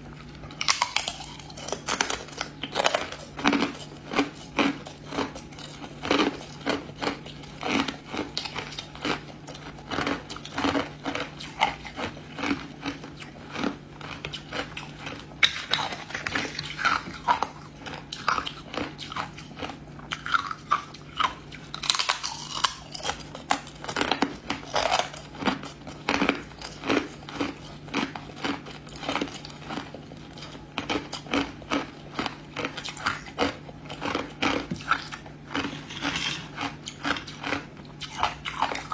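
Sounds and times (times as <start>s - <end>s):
ice crunching between teeth: 0.3s - 38.9s.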